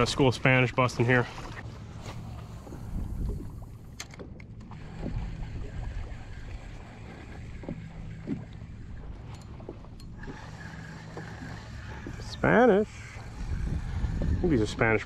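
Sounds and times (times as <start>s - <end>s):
water lapping against hull: 0.0s - 15.0s
wind rumbling on microphone: 1.5s - 15.0s.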